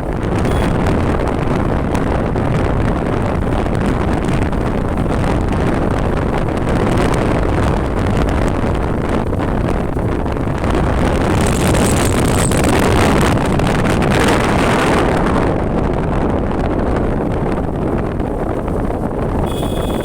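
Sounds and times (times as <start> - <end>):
motorcycle engine rumble: 0.0 - 20.0
wind rushing over microphone: 0.0 - 20.0.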